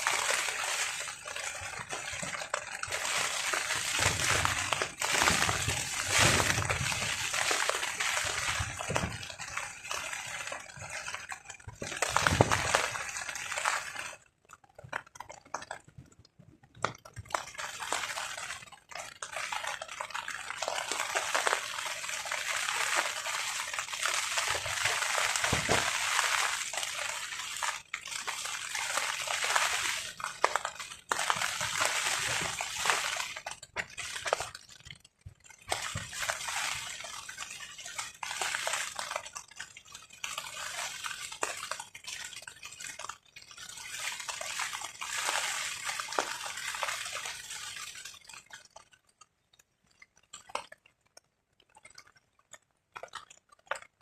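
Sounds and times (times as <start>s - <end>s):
rain falling on a tarp: 0.0s - 54.0s.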